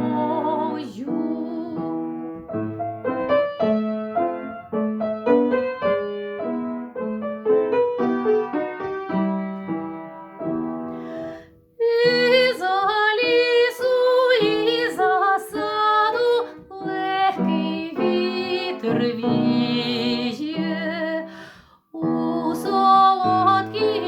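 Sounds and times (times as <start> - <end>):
piano chords and melody: 0.0 - 24.0.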